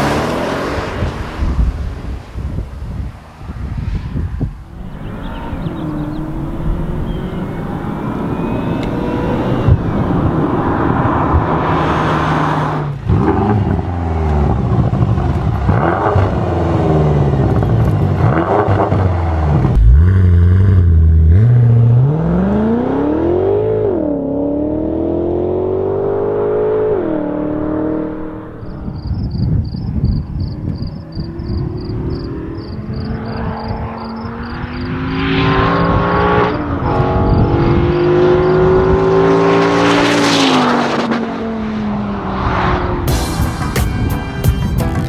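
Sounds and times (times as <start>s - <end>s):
car engine revving: 4.7s - 29.0s, 31.2s - 43.1s.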